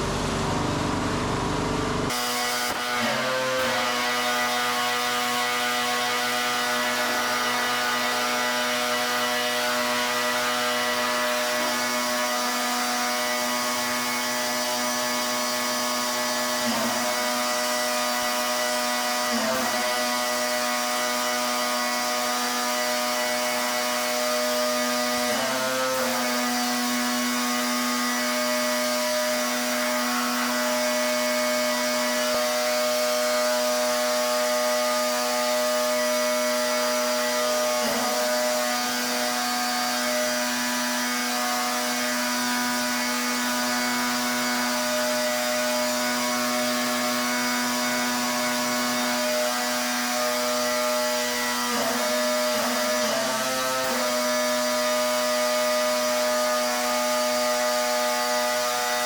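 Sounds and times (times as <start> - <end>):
pressure washer motor hum: 0.0 - 59.0.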